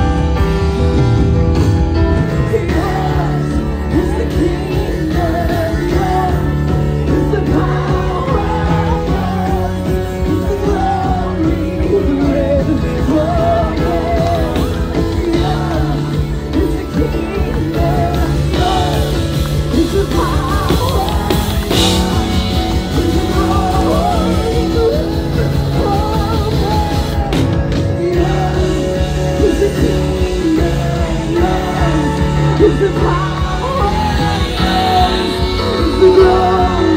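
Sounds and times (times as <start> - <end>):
drum kit beat: 0.0 - 36.9
many voices singing: 1.9 - 36.9.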